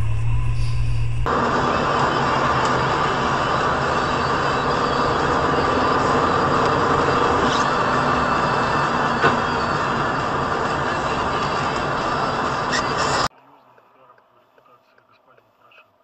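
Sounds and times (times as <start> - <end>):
vehicle road and engine noise: 0.0 - 13.3.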